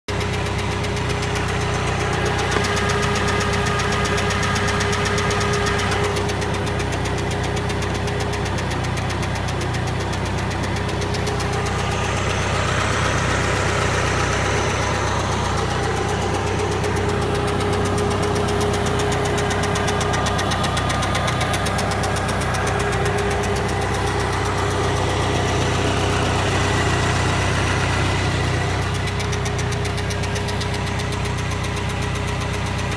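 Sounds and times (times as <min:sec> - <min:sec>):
motorcycle engine running: 0:00.1 - 0:32.9.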